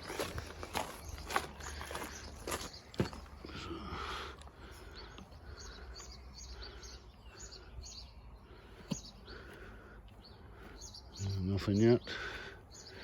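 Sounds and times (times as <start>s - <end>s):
faint outdoor background noise: 0.0s - 13.0s
small birds chirping: 0.0s - 13.0s.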